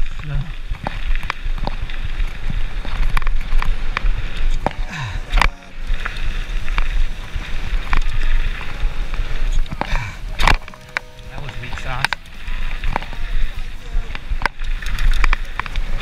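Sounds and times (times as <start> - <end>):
bike clacking and rattling: 0.0 - 10.8, 11.8 - 16.0
wind and tyres rumbling: 0.0 - 16.0.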